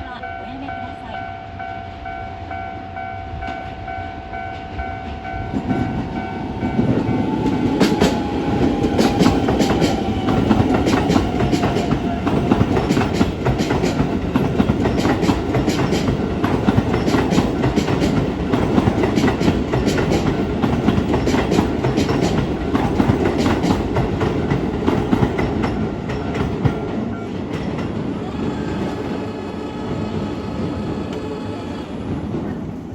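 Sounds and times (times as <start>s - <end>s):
train wheels clickety-clack: 3.4s - 32.9s.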